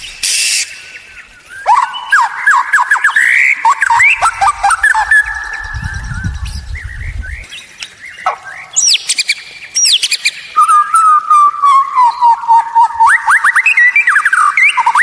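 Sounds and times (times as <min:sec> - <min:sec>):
bird singing whistled notes: 0:00.0 - 0:15.0.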